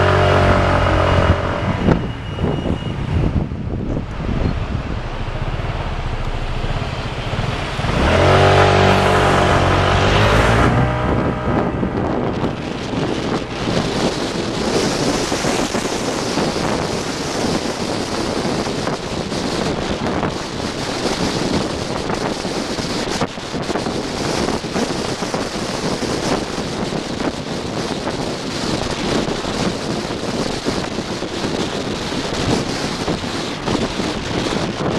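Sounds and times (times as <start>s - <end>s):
engine drone: 0.0s - 34.9s
road and wind noise: 0.0s - 34.9s.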